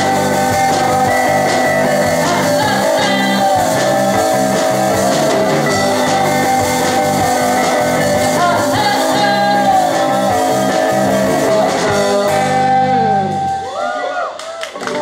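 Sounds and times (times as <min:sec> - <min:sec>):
person singing: 0:00.0 - 0:13.8
rock band playing: 0:00.0 - 0:13.9, 0:14.7 - 0:15.0.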